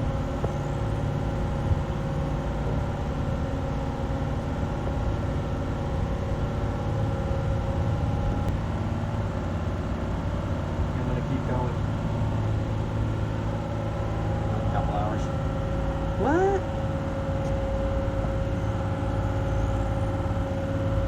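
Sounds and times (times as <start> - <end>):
boat engines droning: 0.0 - 21.0.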